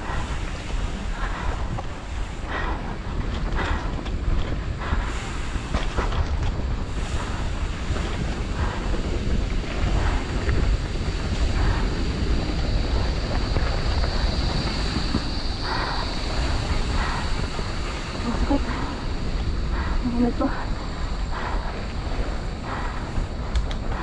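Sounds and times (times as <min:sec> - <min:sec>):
bike tyres clicking and rattling: 0:00.0 - 0:24.0
wind buffeting microphone: 0:00.0 - 0:24.0.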